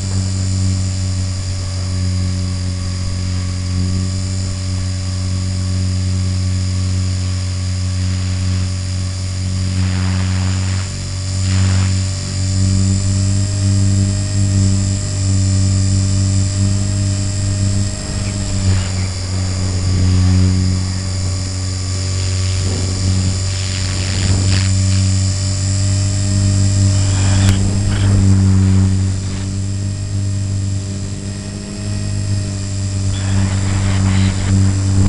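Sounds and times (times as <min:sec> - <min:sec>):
model helicopter motor and rotor: 0:00.0 - 0:35.0.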